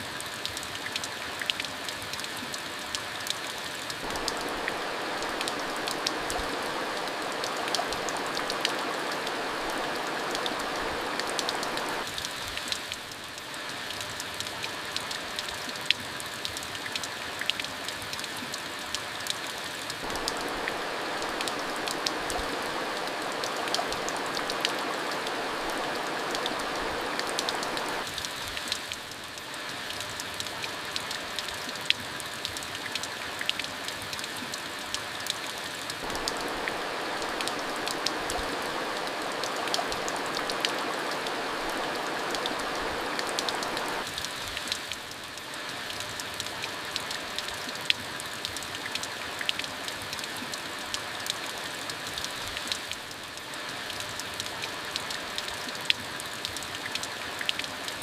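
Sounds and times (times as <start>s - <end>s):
raindrops ticking on a surface: 0.0s - 58.0s
steady rain: 0.0s - 58.0s.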